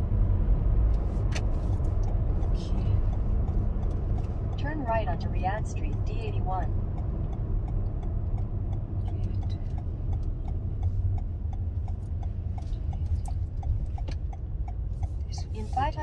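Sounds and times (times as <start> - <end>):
road noise rumble in car: 0.0 - 16.0
turn signal ticking: 0.0 - 16.0.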